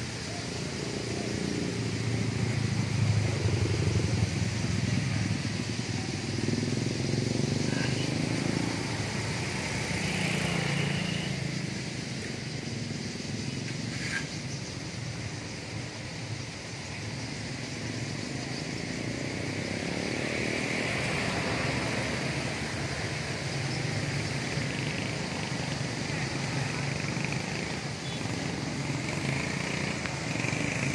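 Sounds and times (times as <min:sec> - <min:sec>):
motorcycles passing: 0:00.0 - 0:30.9
street traffic: 0:00.0 - 0:30.9.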